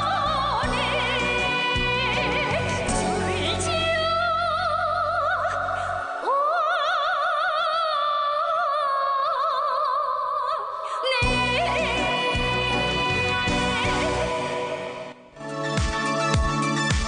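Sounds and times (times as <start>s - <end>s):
song with singer: 0.0s - 17.0s.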